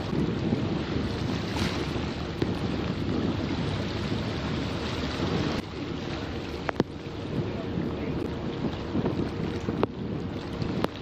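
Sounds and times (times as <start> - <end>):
low rumbling wash: 0.0 - 11.0
wind buffeting microphone: 0.0 - 11.0.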